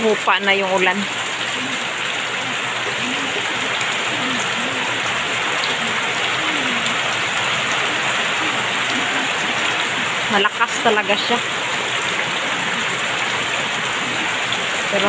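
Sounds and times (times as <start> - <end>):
heavy rain on metal sheeting: 0.0 - 15.0.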